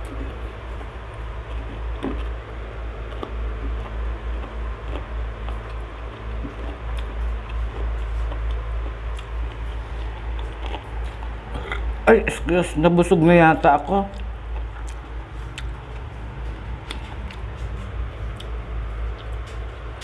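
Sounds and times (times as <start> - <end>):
person chewing: 0.0 - 12.0, 14.1 - 20.0
steady low hum: 0.0 - 20.0.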